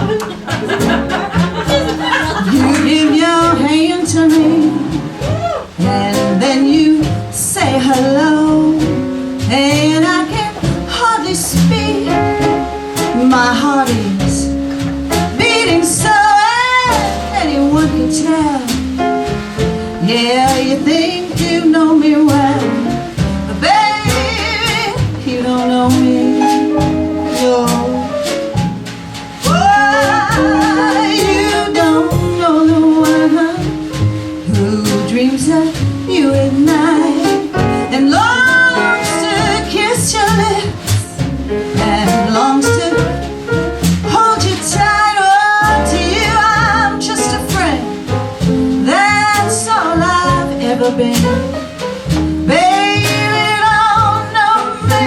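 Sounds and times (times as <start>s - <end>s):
instrumental accompaniment: 0.0s - 55.0s
woman singing: 1.6s - 14.6s, 15.2s - 19.0s, 19.9s - 28.4s, 29.4s - 43.3s, 44.1s - 48.1s, 48.7s - 51.5s, 52.4s - 55.0s.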